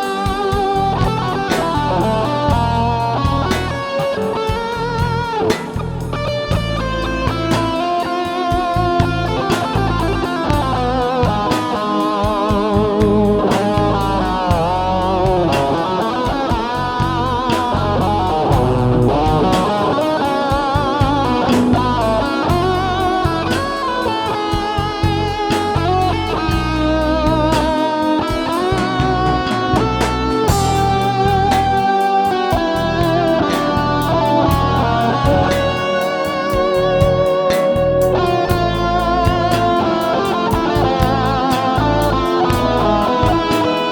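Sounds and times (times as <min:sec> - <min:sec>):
bass and rhythm backing: 0:00.0 - 0:43.9
electric guitar lead melody: 0:00.0 - 0:43.9.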